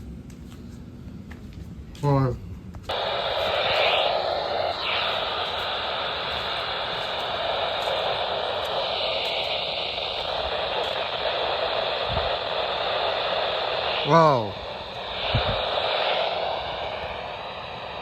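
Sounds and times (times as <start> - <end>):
radio static hiss: 2.9 - 18.0.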